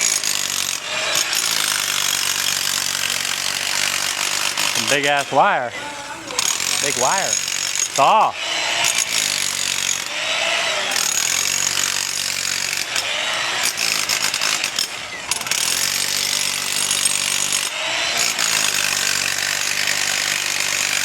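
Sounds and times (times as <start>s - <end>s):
power saw cutting: 0.0s - 21.0s.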